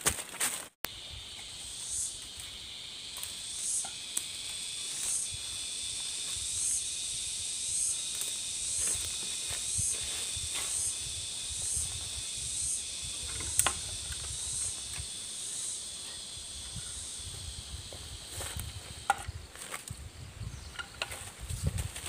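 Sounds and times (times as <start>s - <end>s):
insect chorus hissing drone: 0.9s - 22.0s.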